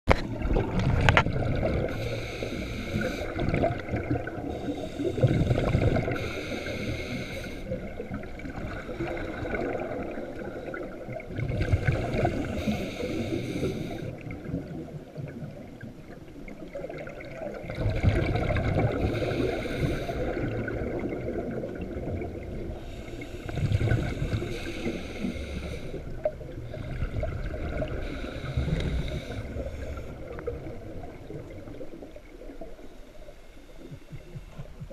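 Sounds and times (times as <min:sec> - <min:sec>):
underwater moving water and bubbling: 0:00.1 - 0:34.9.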